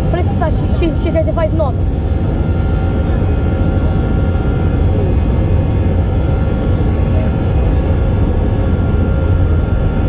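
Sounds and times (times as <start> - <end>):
jet engines deep rumble: 0.0 - 10.0
steady engine tones: 0.0 - 10.0.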